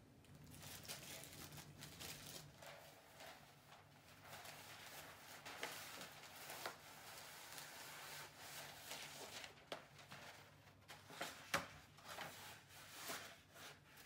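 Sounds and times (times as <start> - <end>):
wrapping paper rustling and crinkling: 0.2 - 14.0.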